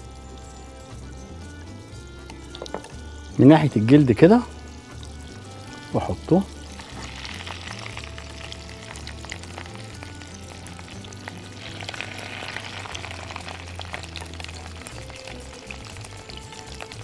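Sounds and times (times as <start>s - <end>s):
fish sizzling in a frying pan: 0.0s - 17.0s.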